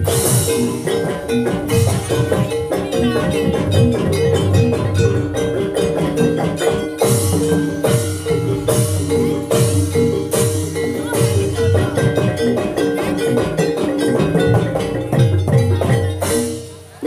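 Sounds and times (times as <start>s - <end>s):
drum strokes: 0.0s - 17.0s
metallophones playing melody: 0.0s - 17.0s.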